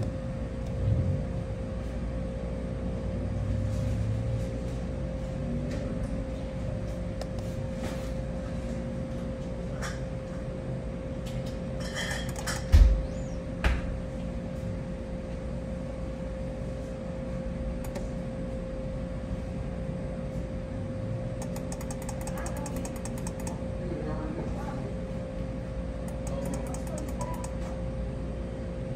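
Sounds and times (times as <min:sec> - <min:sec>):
machine electrical hum: 0:00.0 - 0:28.9.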